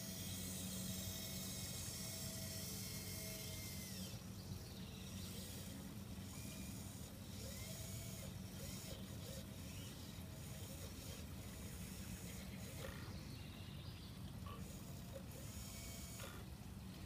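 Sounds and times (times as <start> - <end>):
electric winch motors whining: 0.0 - 13.3, 14.2 - 17.0.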